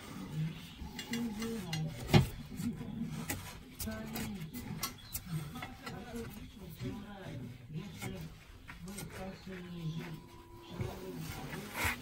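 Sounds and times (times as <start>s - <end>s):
low murmuring voice: 0.0s - 12.0s.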